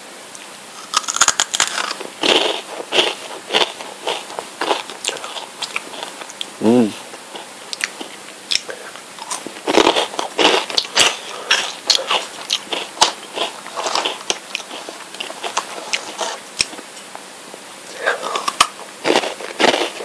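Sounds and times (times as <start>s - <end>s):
crunching potato sticks: 0.7s - 17.0s, 17.9s - 20.0s.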